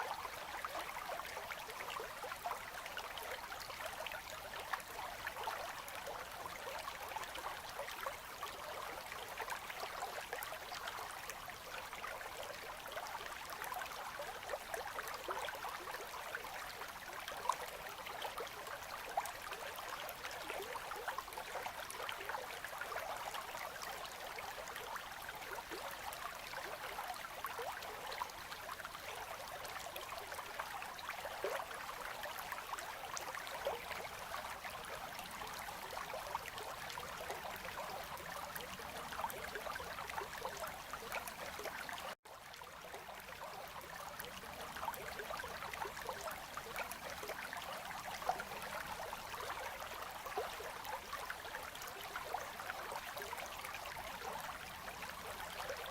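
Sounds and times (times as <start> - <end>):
river burbling and trickling: 0.0 - 55.9.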